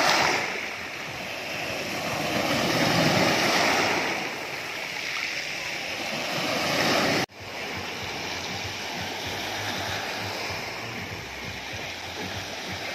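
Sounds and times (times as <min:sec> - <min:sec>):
sea surf on pebble beach: 0:00.0 - 0:12.9.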